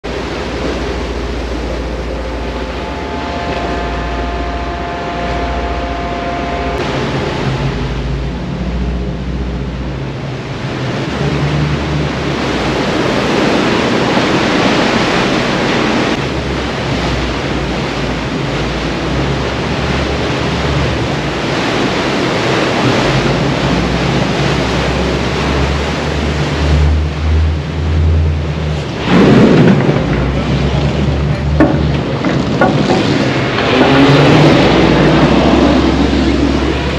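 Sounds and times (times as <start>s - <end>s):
boat engine running low: 0.0s - 36.9s
rushing water: 0.0s - 36.9s
wind: 0.0s - 36.9s.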